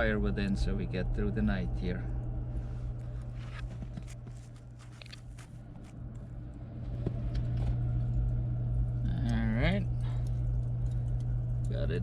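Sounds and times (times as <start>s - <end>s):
low rumble: 0.0s - 12.0s
steady low hum: 0.0s - 12.0s.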